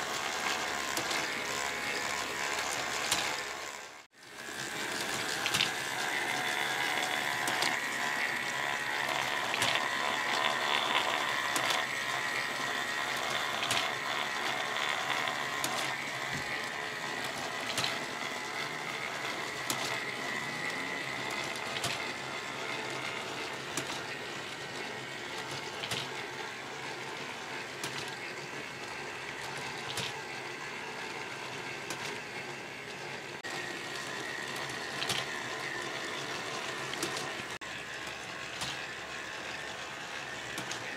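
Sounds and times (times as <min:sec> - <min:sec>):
motor whine: 0:00.0 - 0:40.9.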